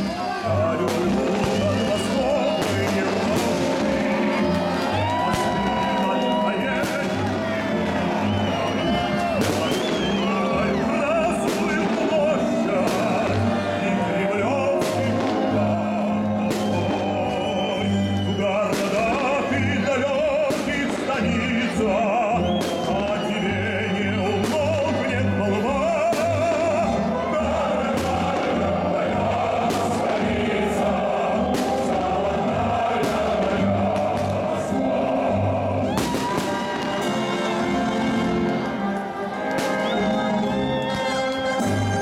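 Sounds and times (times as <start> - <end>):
fireworks bursting: 0.0 - 42.0
music with wavering singing: 0.0 - 42.0.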